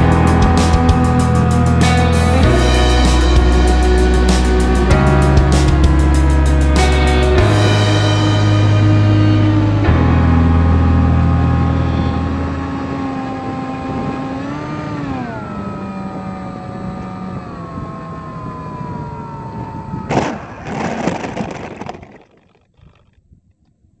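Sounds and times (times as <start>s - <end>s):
electric motor and propeller whine: 0.0s - 23.1s.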